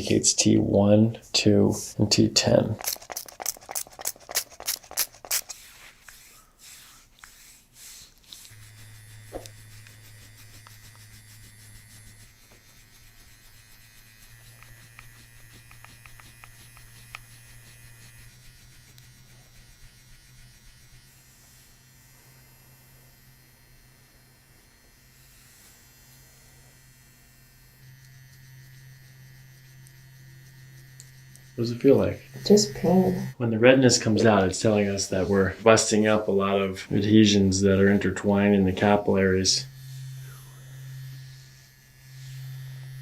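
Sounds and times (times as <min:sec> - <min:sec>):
electric massager buzzing: 0:00.0 - 0:43.0.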